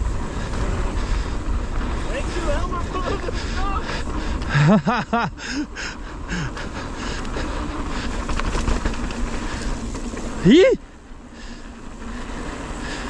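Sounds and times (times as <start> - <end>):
bike tyre and wind noise: 0.0 - 13.0.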